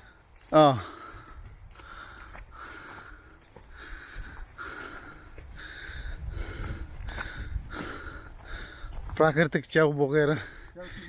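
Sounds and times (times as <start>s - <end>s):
heavy breathing: 0.0s - 9.2s, 10.4s - 11.0s.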